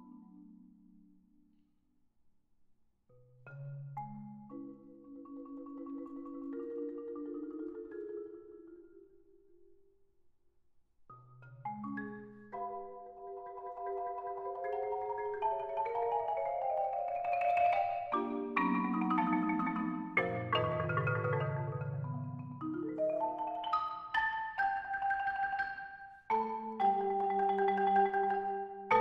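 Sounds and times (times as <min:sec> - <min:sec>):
marimba played with mallets: 0:03.3 - 0:09.5, 0:11.1 - 0:29.0.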